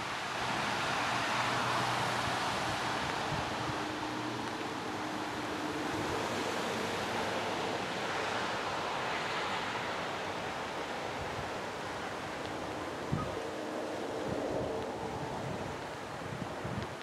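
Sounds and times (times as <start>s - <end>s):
rain falling on grass: 0.0s - 17.0s.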